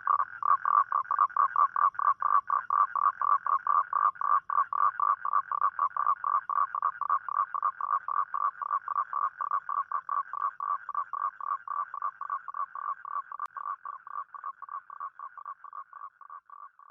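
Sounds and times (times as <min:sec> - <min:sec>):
toad trilling call: 0:00.0 - 0:16.9.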